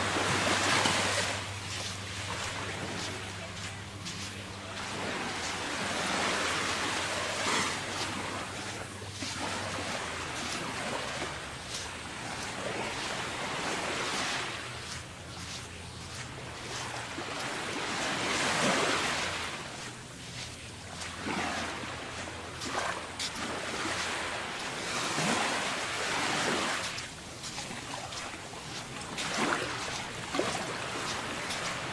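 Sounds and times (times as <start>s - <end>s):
small waves washing onto sand: 0.0s - 31.9s.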